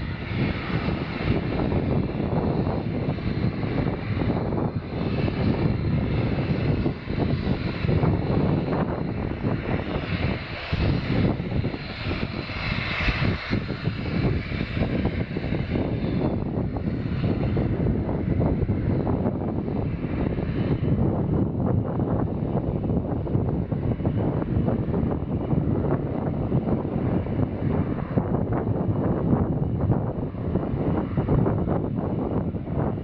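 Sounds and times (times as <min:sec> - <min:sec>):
aircraft engines whining: 0:00.0 - 0:33.0
wind buffeting microphone: 0:00.0 - 0:33.0.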